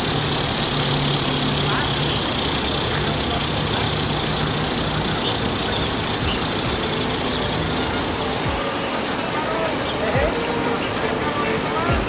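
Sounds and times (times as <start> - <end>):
low engine hum: 0.0 - 12.0
steady rushing noise: 0.0 - 12.0.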